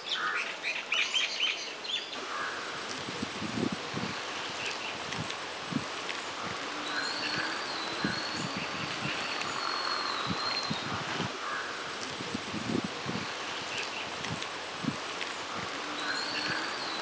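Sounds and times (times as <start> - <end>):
outdoor ambience: 0.0 - 17.0.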